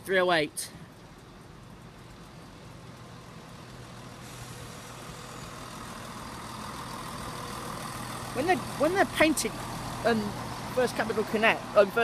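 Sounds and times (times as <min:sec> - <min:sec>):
diesel train engine passing: 0:00.8 - 0:12.0.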